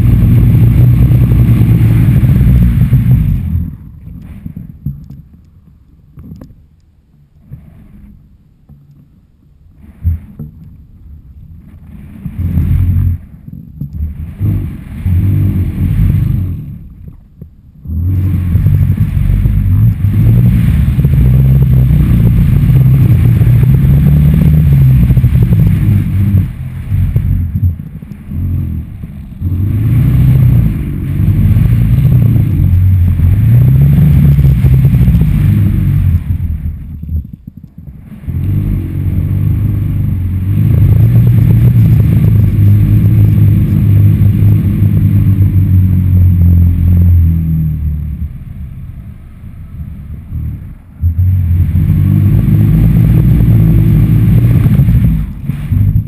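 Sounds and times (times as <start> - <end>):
wind buffeting microphone: 0.0 - 6.7, 9.7 - 56.0.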